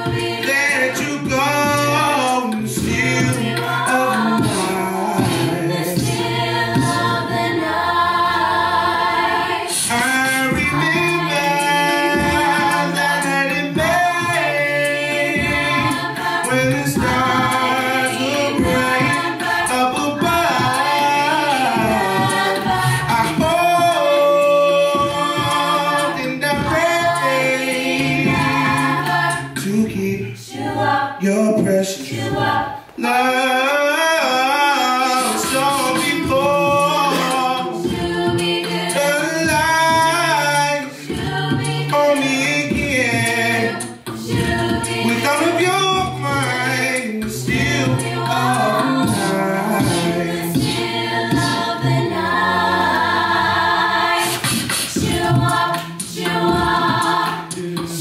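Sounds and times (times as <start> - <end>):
a cappella group singing in harmony: 0.0 - 58.0.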